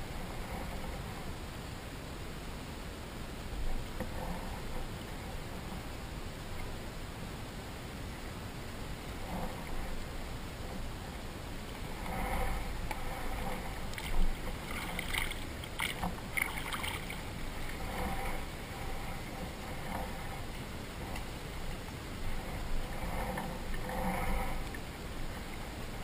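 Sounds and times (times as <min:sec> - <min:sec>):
water lapping against boat: 0:00.0 - 0:01.4, 0:03.5 - 0:06.0, 0:08.5 - 0:26.0.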